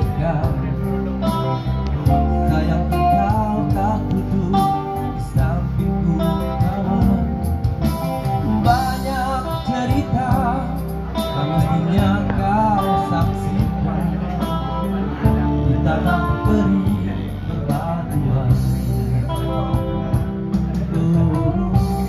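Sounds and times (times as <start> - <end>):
guitar accompaniment: 0.0 - 22.0
man singing into microphone: 0.0 - 22.0.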